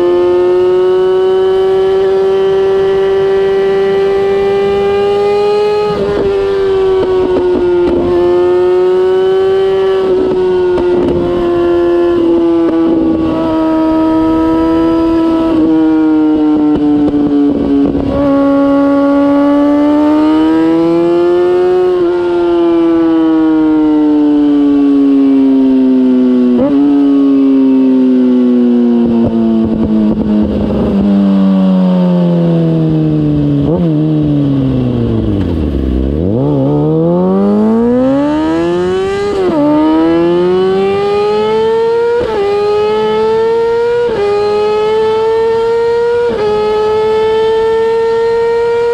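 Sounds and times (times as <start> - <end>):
motorcycle engine: 0.0 - 48.9
motorcycle upshifts: 0.1 - 23.5, 32.4 - 48.9.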